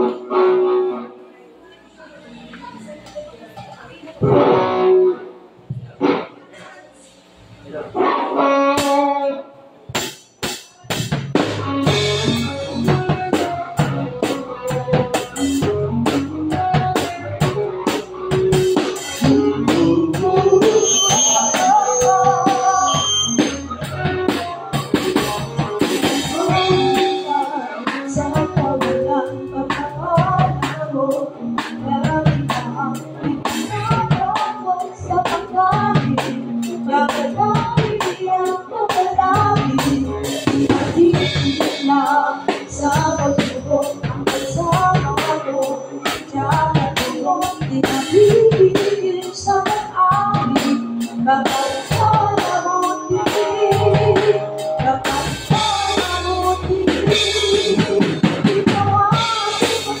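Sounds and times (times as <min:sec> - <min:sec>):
instruments playing a song: 0:08.0 - 1:00.0
drum kit playing a steady beat: 0:09.9 - 1:00.0.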